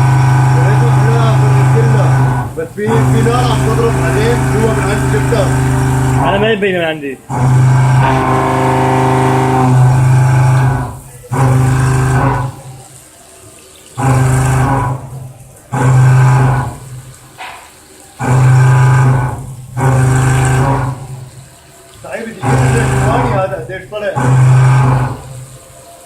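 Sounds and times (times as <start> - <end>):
milling machine cutting drone: 0.0 - 13.1, 13.9 - 26.0.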